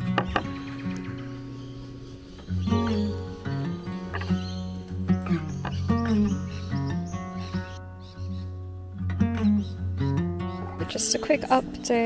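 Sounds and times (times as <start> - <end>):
plucked notes: 0.0 - 12.0.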